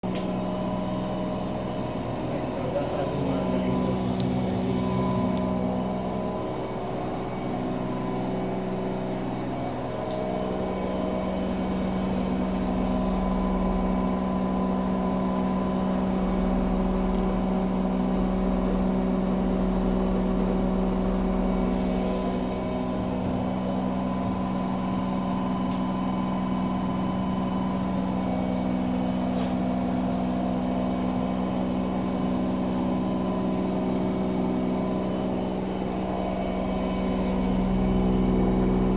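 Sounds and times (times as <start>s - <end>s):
washing machine motor humming: 0.0s - 38.9s.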